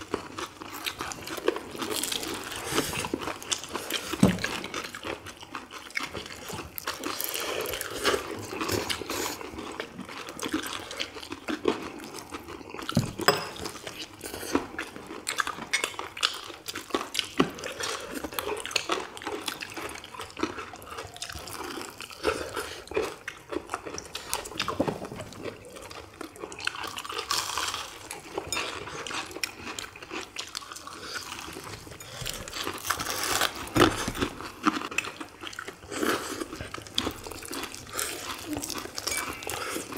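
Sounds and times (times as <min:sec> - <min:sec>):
crunchy chewing: 0:00.0 - 0:13.0, 0:13.6 - 0:39.9.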